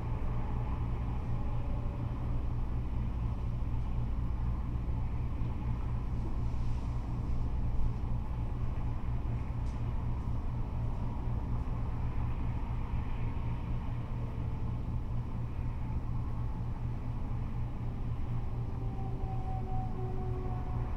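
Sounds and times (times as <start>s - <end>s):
freeway traffic rumble: 0.0s - 20.9s.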